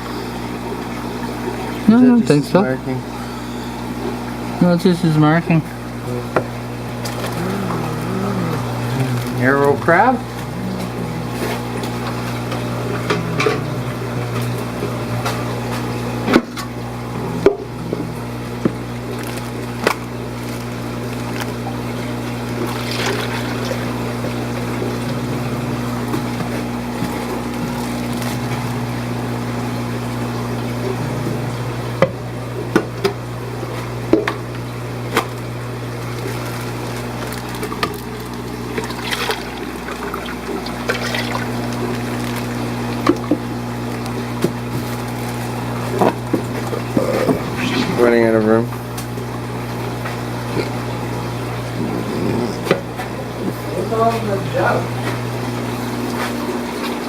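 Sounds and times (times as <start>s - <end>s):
water trickling: 0.0s - 52.2s
pump humming: 0.0s - 57.0s.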